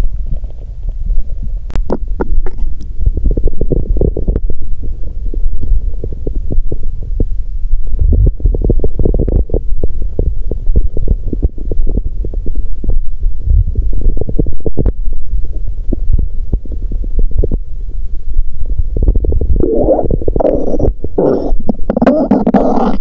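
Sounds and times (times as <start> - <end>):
stomach gurgling and rumbling: 0.0 - 23.0.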